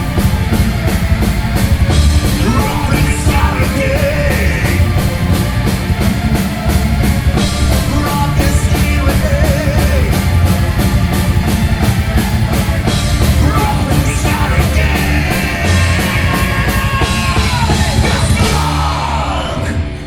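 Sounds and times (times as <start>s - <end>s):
fast steady drum beat: 0.0s - 19.7s
punk rock band playing: 0.0s - 20.0s.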